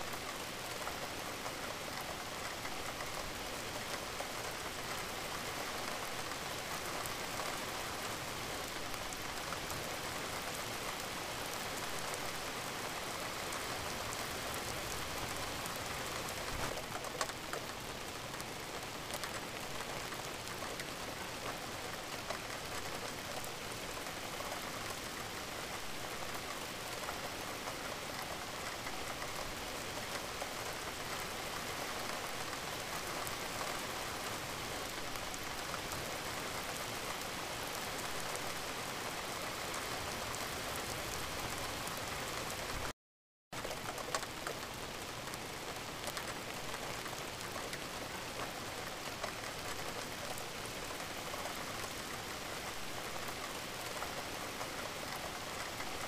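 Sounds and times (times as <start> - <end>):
rain falling hiss: 0.0 - 42.9, 43.6 - 56.0.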